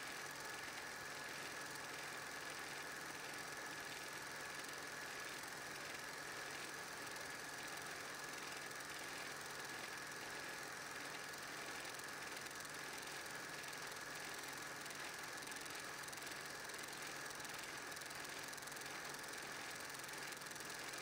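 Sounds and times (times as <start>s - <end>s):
film projector running: 0.0s - 21.0s.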